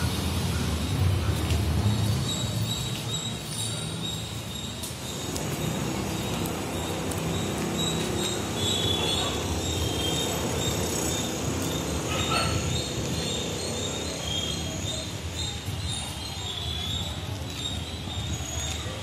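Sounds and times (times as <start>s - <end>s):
birds chirping: 1.8s - 18.8s.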